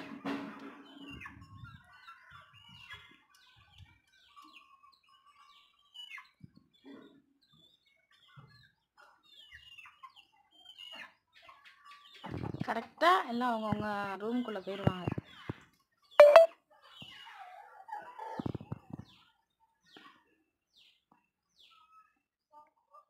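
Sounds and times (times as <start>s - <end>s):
chicks chirping and peeping: 0.0s - 12.9s, 13.7s - 20.2s.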